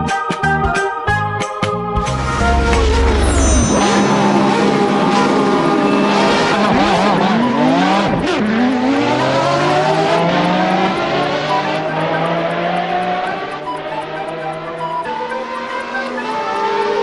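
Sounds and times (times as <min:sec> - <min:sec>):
car engines revving: 0:02.1 - 0:17.0.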